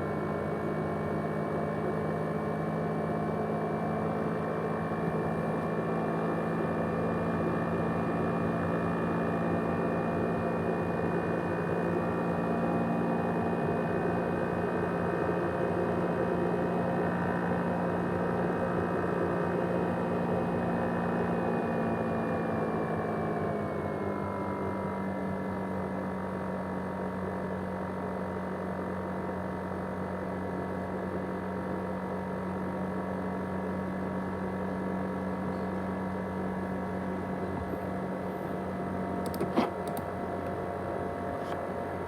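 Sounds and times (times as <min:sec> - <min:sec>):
laptop fan whirring with whine: 0:00.0 - 0:42.0.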